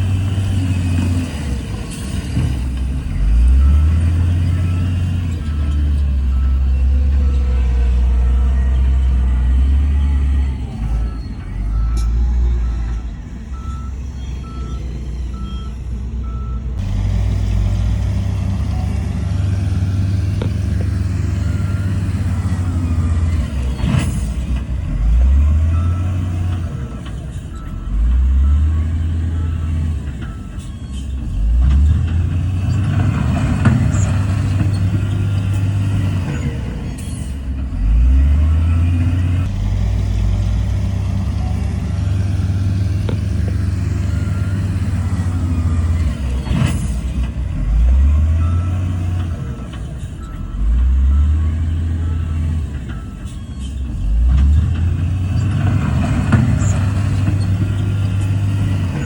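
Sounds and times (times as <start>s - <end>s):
heavy diesel machinery engine: 0.0s - 59.0s
reversing alarm beeping: 3.1s - 16.8s, 18.5s - 39.5s, 41.2s - 55.6s.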